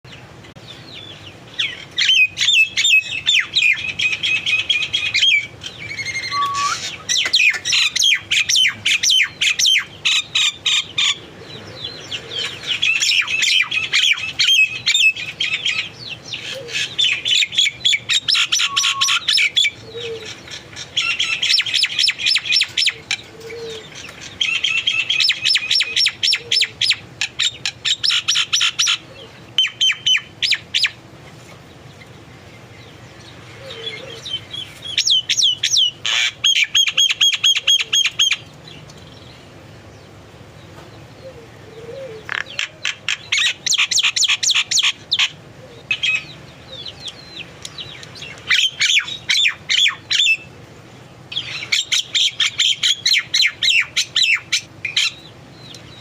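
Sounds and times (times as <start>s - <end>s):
small birds chirping: 0.1s - 56.0s.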